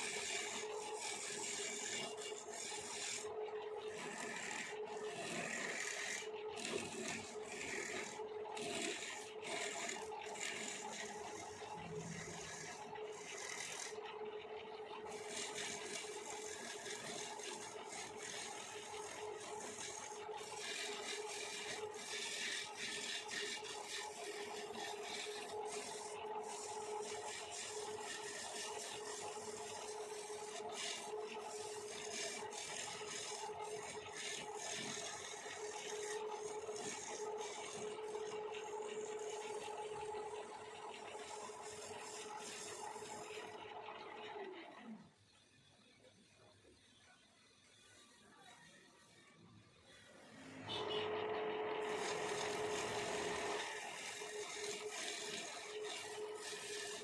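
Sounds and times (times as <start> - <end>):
cutting tool rasping on wood: 0.0 - 43.6, 51.8 - 57.0
lathe humming: 0.0 - 44.6, 50.0 - 57.0.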